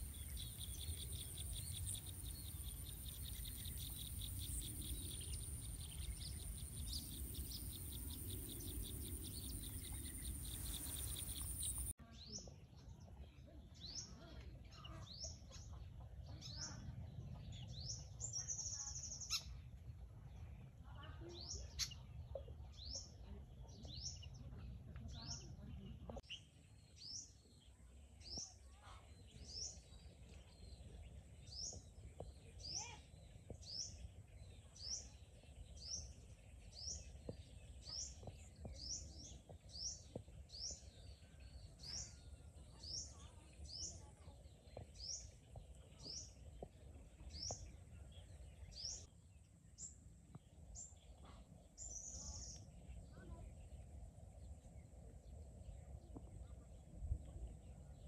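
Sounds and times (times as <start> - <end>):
bird chirping: 0.0 - 12.5, 20.4 - 56.6.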